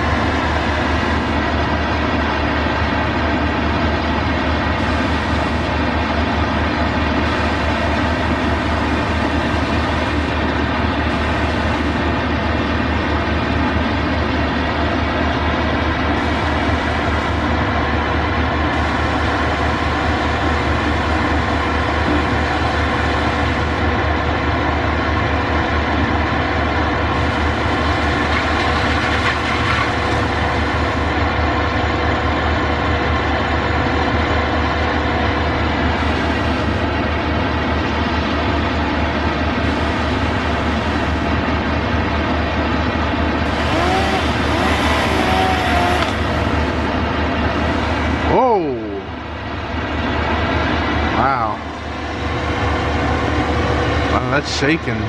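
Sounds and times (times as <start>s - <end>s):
heavy machine engine running: 0.0s - 55.0s.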